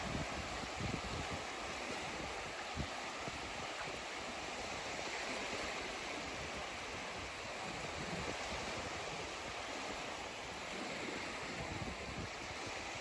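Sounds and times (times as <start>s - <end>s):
waves washing on shore: 0.0s - 13.0s.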